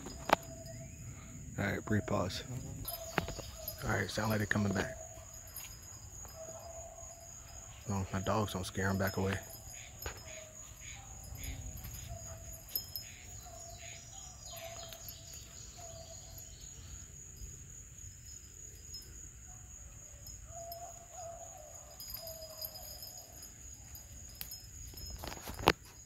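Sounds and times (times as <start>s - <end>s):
distant hunting dogs baying: 0.0s - 17.7s, 18.3s - 25.8s
high insect drone: 0.0s - 26.0s.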